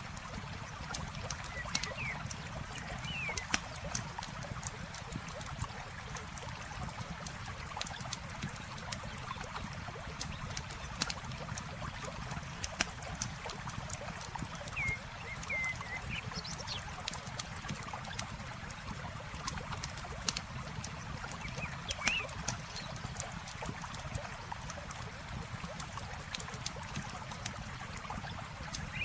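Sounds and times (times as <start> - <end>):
campfire crackling: 0.0 - 29.0
flowing water: 0.0 - 29.0.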